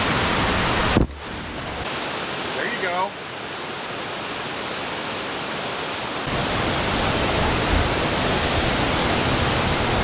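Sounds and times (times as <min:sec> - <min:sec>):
water rushing over spillway: 0:00.0 - 0:10.0.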